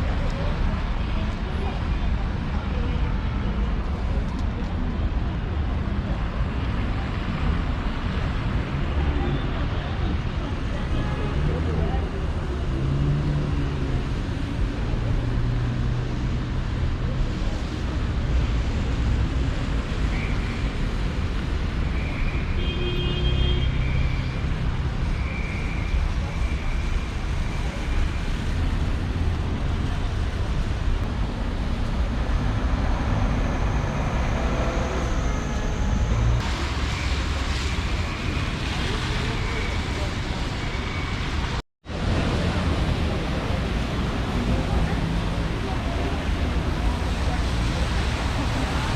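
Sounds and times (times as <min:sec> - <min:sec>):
passing vehicles rumbling: 0:00.0 - 0:22.5, 0:23.2 - 0:48.9.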